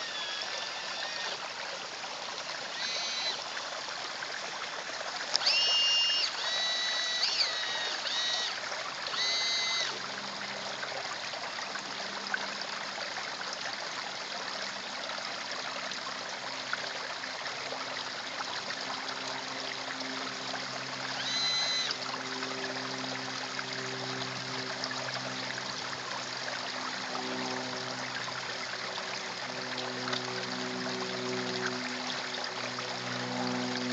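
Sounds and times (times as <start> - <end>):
pond water trickling: 0.0 - 33.9.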